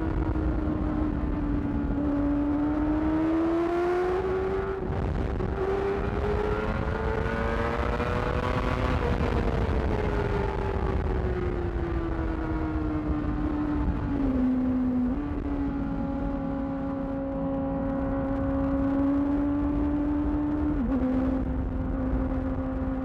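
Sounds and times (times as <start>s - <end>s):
motorcycle engine at high revs: 0.0s - 11.2s, 12.4s - 23.0s.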